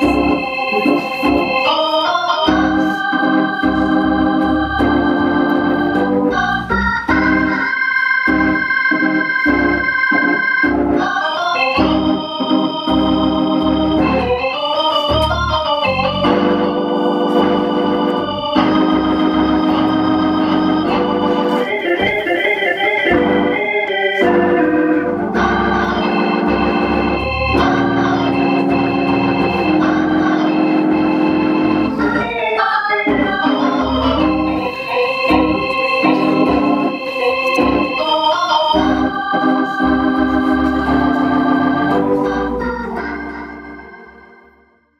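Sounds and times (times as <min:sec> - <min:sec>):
organ chords: 0:00.0 - 0:44.9.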